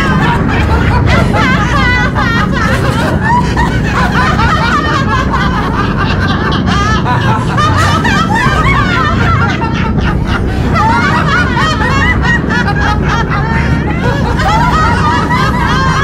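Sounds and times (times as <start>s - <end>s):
low steady hum: 0.0s - 16.0s
people laughing: 0.0s - 16.0s.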